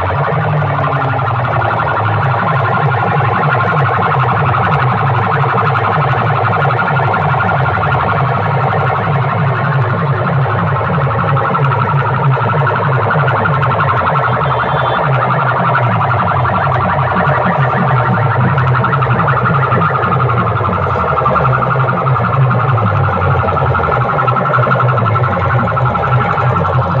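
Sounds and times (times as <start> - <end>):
harsh alarm-like electronic tone: 0.0 - 27.0
pounding bass beat: 0.0 - 27.0.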